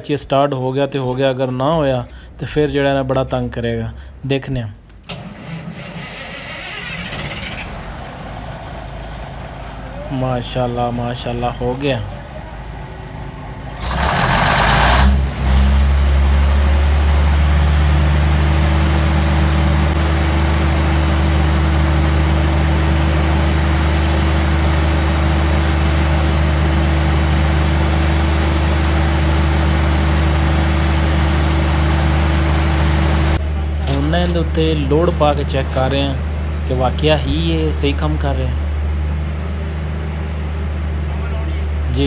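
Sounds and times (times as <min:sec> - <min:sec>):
diesel generator engine running: 0:00.0 - 0:42.0.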